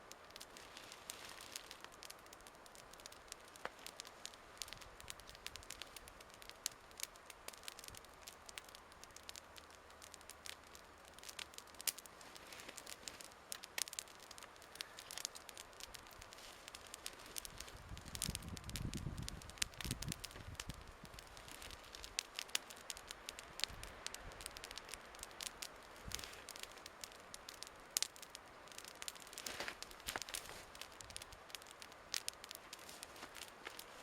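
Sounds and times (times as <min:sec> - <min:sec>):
campfire crackling: 0:00.0 - 0:34.0
soft hiss: 0:00.0 - 0:34.0.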